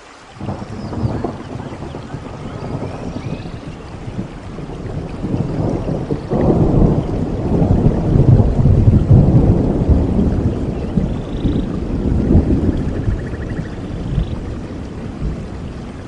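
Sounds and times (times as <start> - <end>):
steady rainfall: 0.0 - 16.0
rolling thunder: 0.4 - 16.0.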